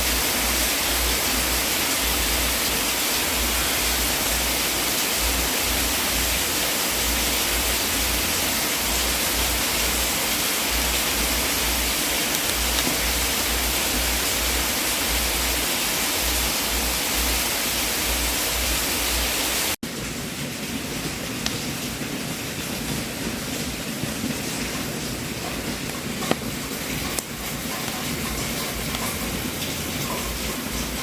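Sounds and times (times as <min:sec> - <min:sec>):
fire crackles: 0:00.0 - 0:17.4, 0:19.6 - 0:31.0
wood fire hissing: 0:00.0 - 0:19.8, 0:21.3 - 0:31.0.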